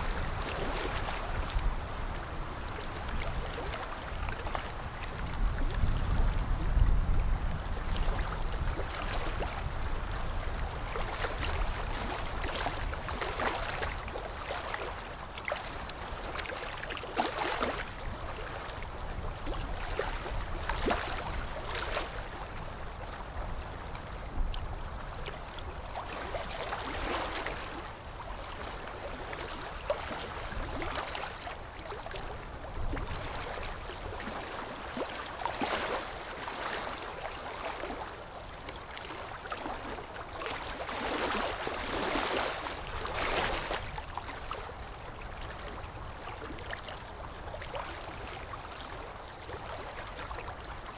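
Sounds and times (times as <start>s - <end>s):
small waves lapping on shore: 0.0s - 50.9s.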